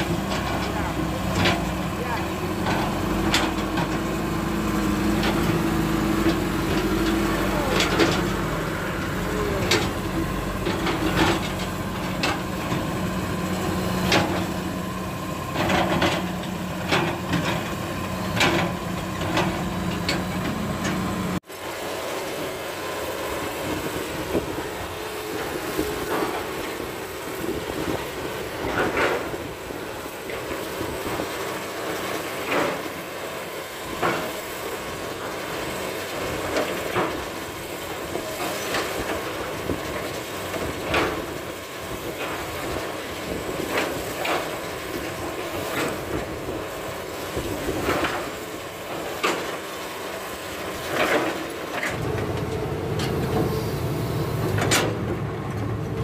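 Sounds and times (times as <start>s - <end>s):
diesel engine hum: 0.0s - 56.0s.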